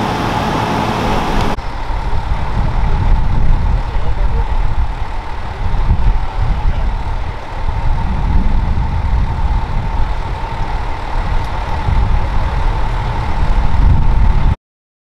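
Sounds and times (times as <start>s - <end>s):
diesel engine idling: 0.0s - 14.6s
thin steady whine: 0.0s - 14.6s.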